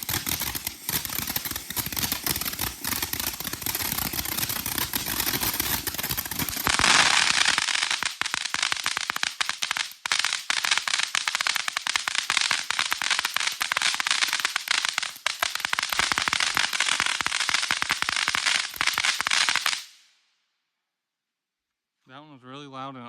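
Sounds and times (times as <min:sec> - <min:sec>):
firework crackling pops: 0:00.0 - 0:20.2.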